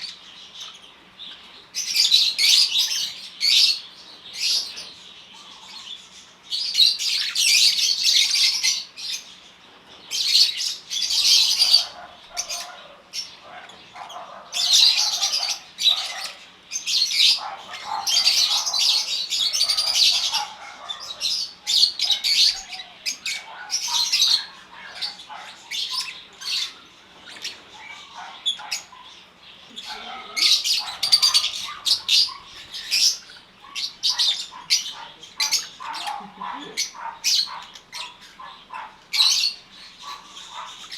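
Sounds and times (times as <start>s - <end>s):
lovebirds chattering and squawking: 0.0s - 40.9s.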